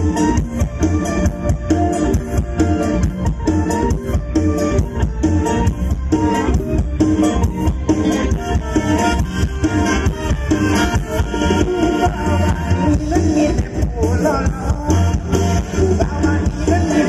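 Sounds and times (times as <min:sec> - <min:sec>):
loud band music with bass beat: 0:00.0 - 0:17.0
pitch-bending lead melody: 0:00.0 - 0:17.0.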